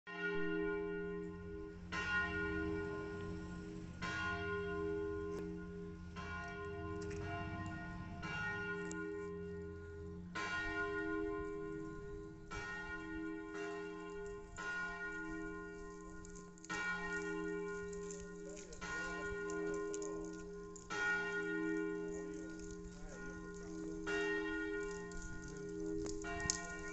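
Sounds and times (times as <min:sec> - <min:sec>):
church bells ringing: 0:00.1 - 0:26.9.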